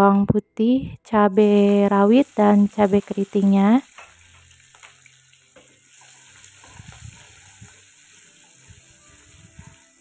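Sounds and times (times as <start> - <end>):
garlic sizzling in hot oil: 1.3 - 10.0.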